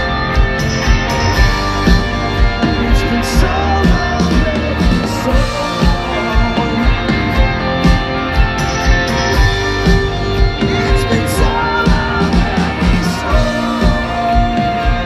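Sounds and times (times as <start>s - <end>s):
drums beating: 0.0s - 15.0s
electric guitars: 0.0s - 15.0s
rock band playing live: 0.0s - 15.0s.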